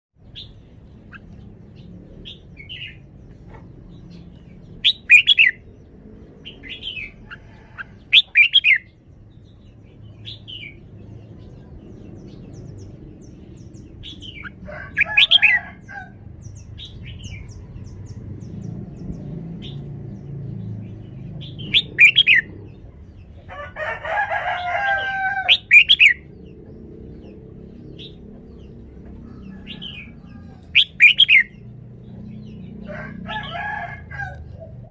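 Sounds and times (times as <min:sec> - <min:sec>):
bird warbling song: 0:00.2 - 0:23.5, 0:24.6 - 0:33.6.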